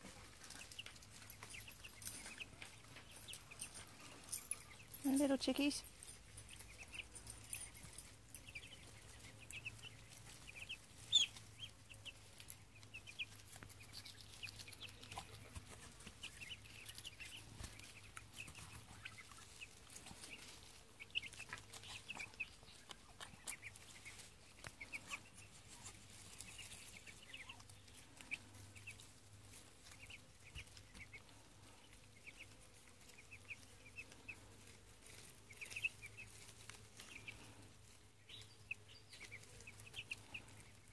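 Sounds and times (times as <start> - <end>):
chicks and ducklings peeping: 0.0 - 40.9.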